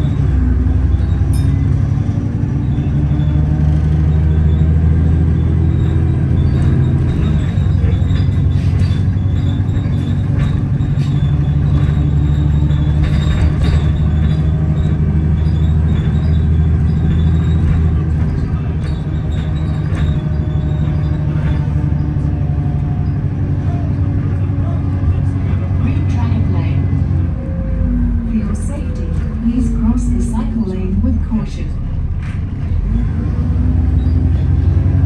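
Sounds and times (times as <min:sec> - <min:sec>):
bodywork rattles: 0:00.0 - 0:27.2, 0:31.9 - 0:35.0
bus engine drone: 0:00.0 - 0:35.0.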